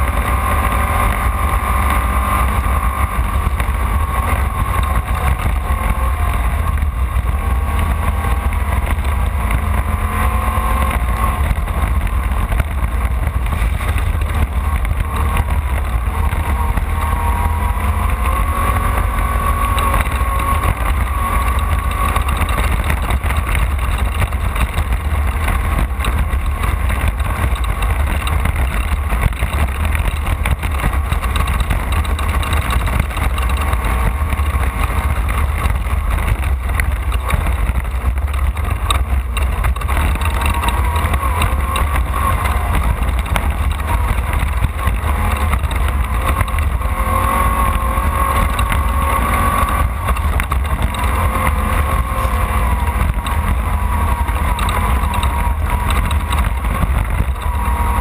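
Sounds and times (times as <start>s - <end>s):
car rumbling over rough ground: 0.0s - 58.0s
race car engine revving: 0.0s - 58.0s.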